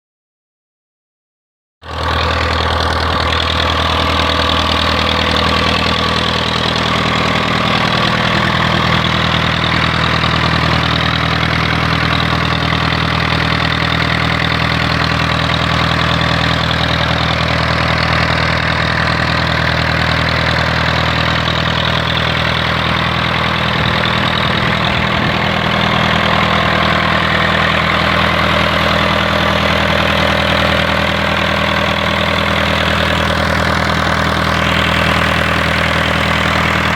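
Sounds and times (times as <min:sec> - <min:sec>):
diesel engine running: 0:01.8 - 0:36.9.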